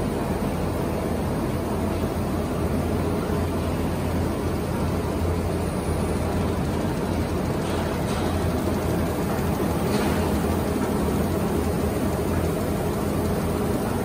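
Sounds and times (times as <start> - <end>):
printing press humming: 0.0 - 14.0.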